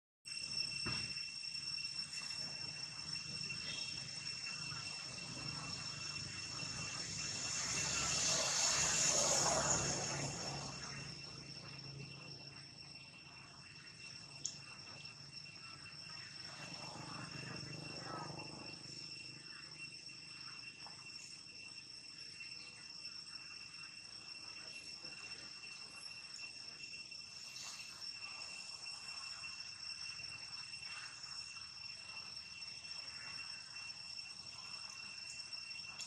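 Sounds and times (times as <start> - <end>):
high-pitched insect chorus: 0.3 - 36.0.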